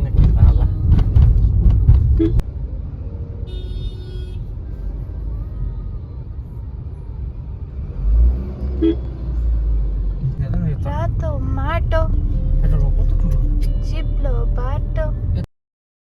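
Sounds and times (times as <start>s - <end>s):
car driving rumble: 0.0s - 15.5s.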